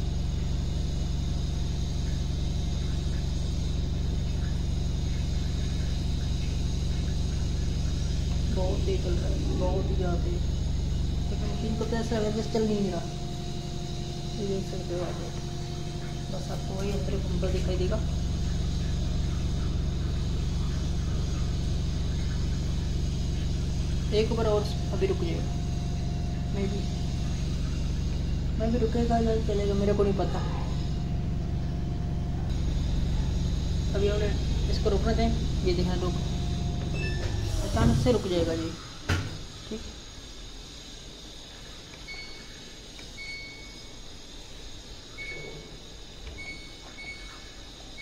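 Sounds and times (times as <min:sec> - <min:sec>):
faint high whine: 0:00.0 - 0:48.0
washing machine spinning: 0:00.0 - 0:48.0.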